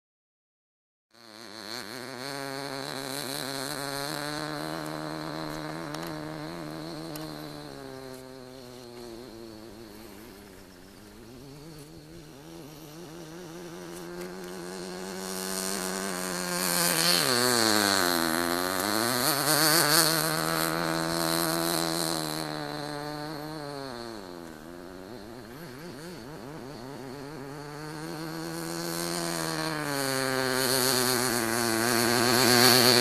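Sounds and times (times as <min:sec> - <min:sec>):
model engine high buzz: 0:01.2 - 0:33.0.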